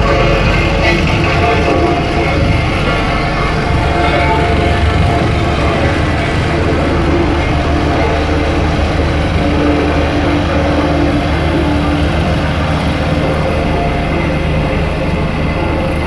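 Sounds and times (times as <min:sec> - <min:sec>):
compactor roller diesel engine: 0:00.0 - 0:16.0.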